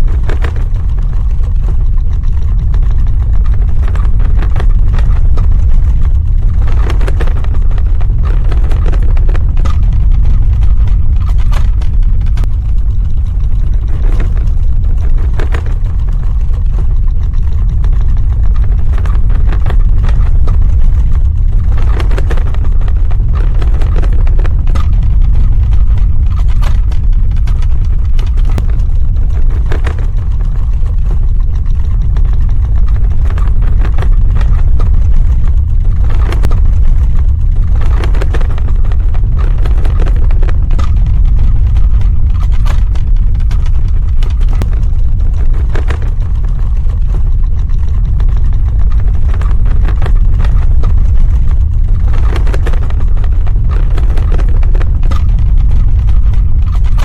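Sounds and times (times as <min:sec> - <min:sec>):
crackling and rattling: 0:00.0 - 0:57.0
deep earthquake rumble: 0:00.0 - 0:57.0.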